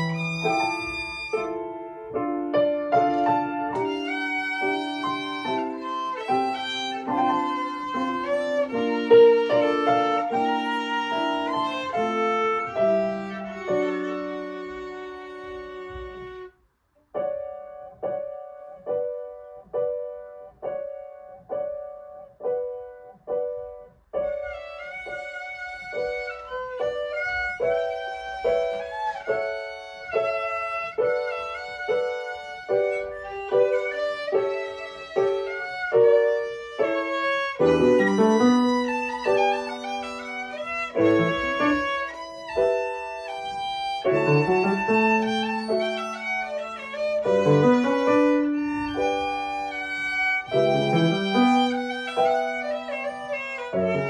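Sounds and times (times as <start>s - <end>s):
violin melody: 0.0s - 16.6s, 17.2s - 54.0s
piano accompaniment: 0.0s - 54.0s.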